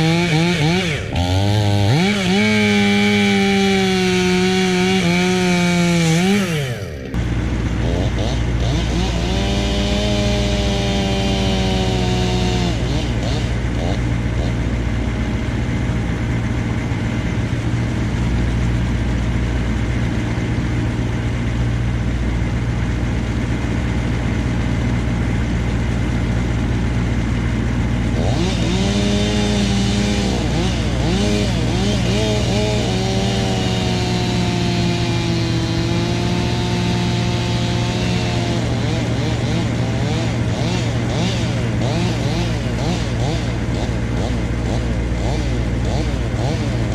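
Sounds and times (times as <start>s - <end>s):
chainsaw revving and cutting: 0.0s - 46.9s
machine engine droning: 0.0s - 46.9s.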